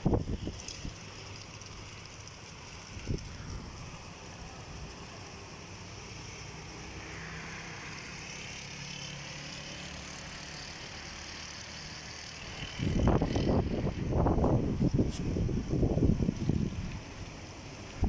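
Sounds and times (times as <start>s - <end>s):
faint hiss: 0.1s - 18.0s.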